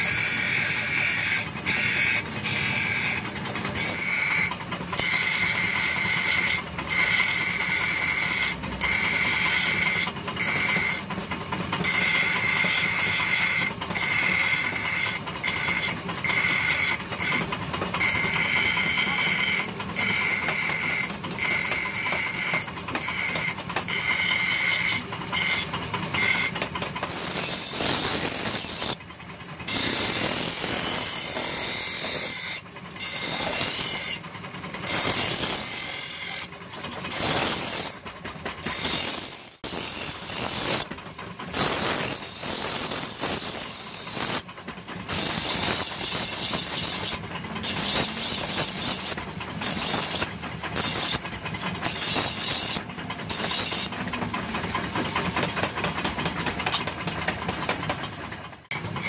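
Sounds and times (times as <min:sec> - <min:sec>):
axe grinding on grinding wheel: 0:00.0 - 0:59.0.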